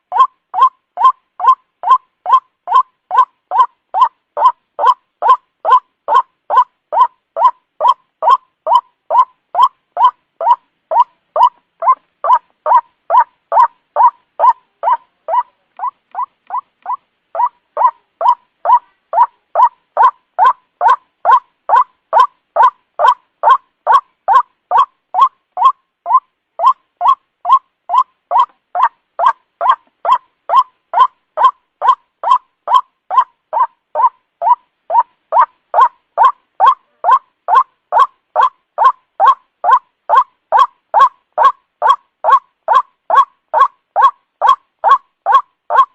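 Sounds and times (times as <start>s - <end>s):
waterhen calling harsh notes: 0.0s - 45.9s.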